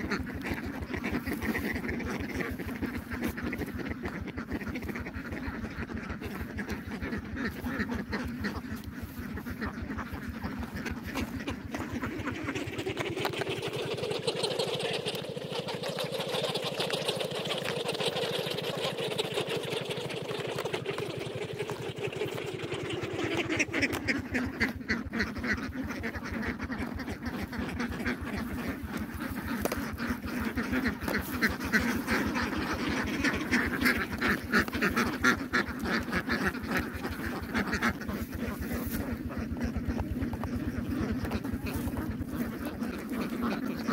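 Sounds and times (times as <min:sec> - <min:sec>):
ducks quacking: 0:00.0 - 0:43.9.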